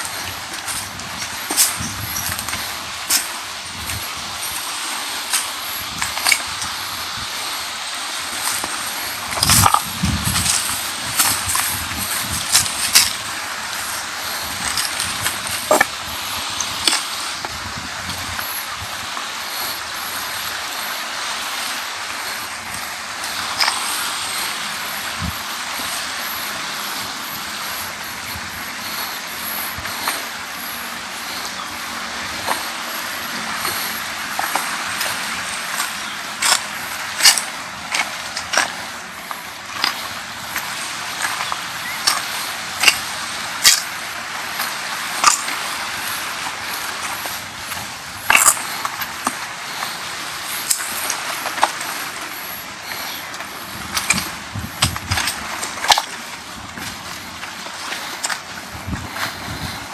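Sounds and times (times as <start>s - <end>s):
breeze: 0.0s - 59.9s
sea waves: 0.0s - 59.9s.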